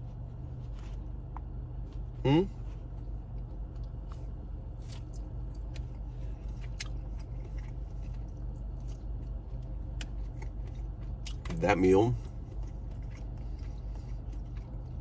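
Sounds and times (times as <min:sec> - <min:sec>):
person chewing with wet mouth noises: 0:00.0 - 0:15.0
steady low hum: 0:00.0 - 0:15.0.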